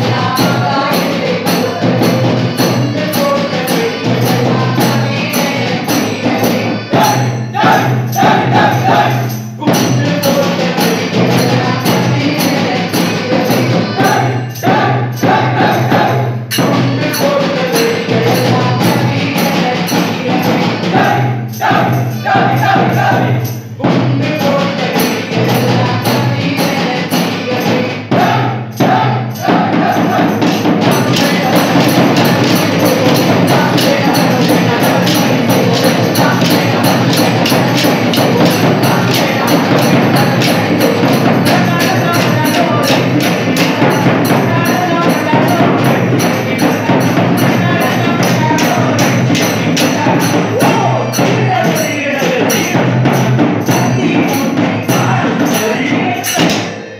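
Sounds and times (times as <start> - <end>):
drum beating: 0.0 - 56.9
voices singing: 0.0 - 56.9.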